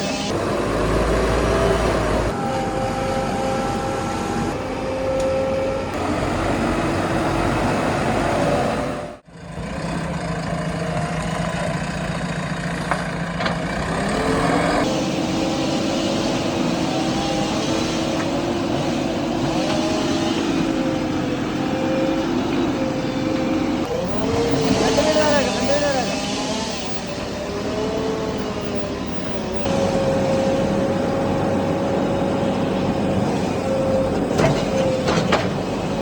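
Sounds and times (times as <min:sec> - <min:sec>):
backhoe diesel engine under load: 0:00.0 - 0:36.0.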